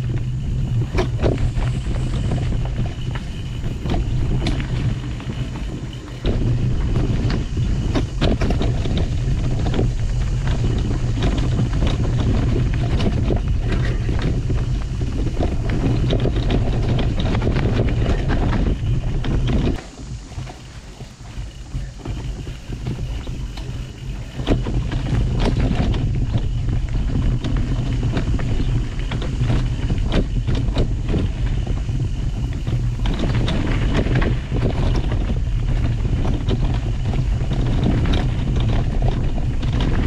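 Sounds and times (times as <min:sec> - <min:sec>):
bike knocking and rattling: 0:00.0 - 0:40.0
tyre noise on dirt: 0:00.0 - 0:40.0
wind rumbling on microphone: 0:00.0 - 0:40.0.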